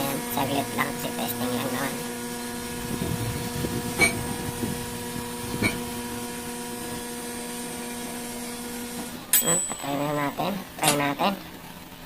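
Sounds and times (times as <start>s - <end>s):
microwave oven electrical hum: 0.0s - 12.0s.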